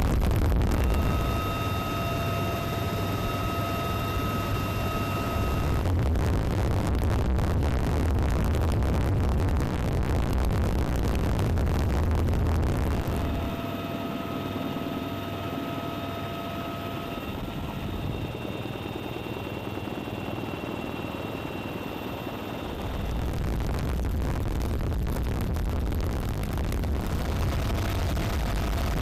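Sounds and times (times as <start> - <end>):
helicopter rotor rumble: 0.0 - 8.6, 10.6 - 29.0
high turbine whine: 0.0 - 29.0.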